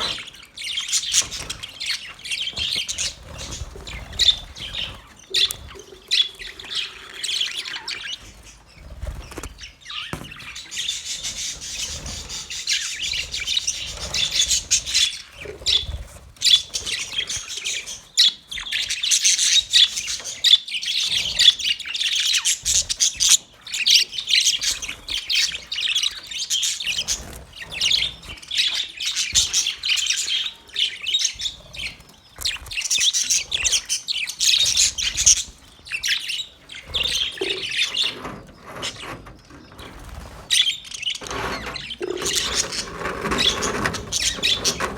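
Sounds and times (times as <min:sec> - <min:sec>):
budgerigars warbling and chirping: 0:00.0 - 0:44.9.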